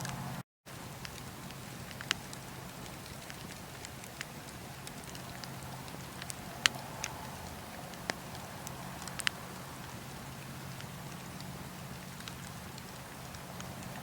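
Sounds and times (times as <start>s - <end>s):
wood fire crackling: 0.0s - 14.0s
burning wood popping: 0.1s - 14.0s.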